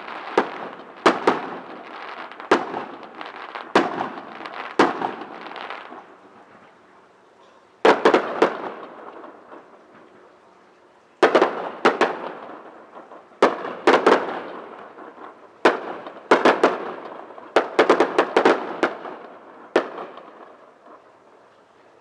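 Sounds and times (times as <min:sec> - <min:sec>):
fireworks bursting: 0:00.0 - 0:07.0, 0:07.8 - 0:10.5, 0:11.1 - 0:22.0.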